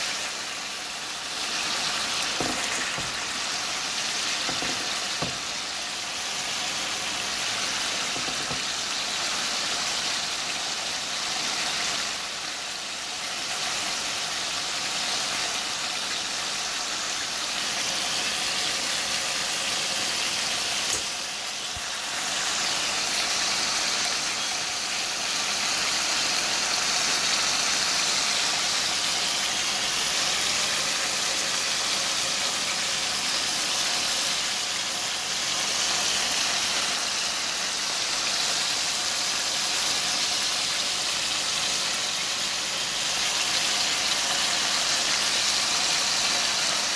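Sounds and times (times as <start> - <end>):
steaks sizzling in a frying pan: 0.0 - 46.9.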